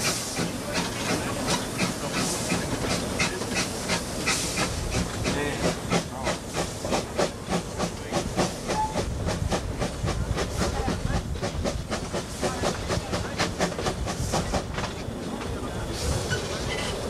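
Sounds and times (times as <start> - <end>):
steam hiss: 0.0 - 17.0
steam locomotive beats: 0.0 - 17.0.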